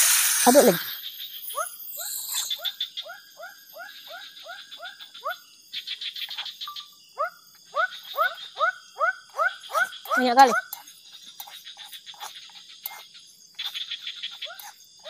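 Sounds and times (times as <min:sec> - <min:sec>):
frog chirping: 0:00.0 - 0:15.0
high insect buzz: 0:00.0 - 0:15.0.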